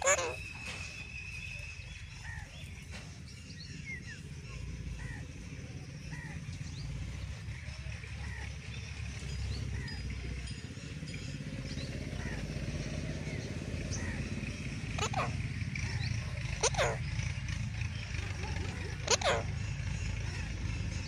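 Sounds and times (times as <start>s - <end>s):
birds chirping softly: 0.0s - 21.0s.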